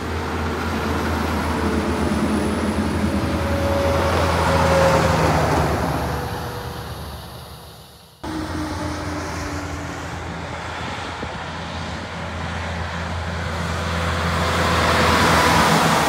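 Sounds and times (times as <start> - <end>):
truck diesel engine: 0.0 - 16.0
tyre and road noise: 0.0 - 16.0.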